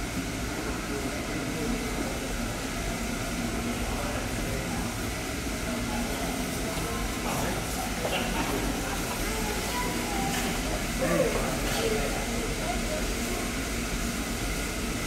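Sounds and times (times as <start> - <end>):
railway platform rumble and hiss: 0.0 - 15.0.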